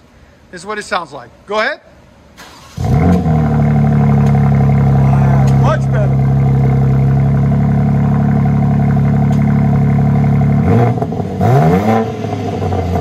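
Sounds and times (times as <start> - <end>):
car engine revving: 2.4 - 13.0.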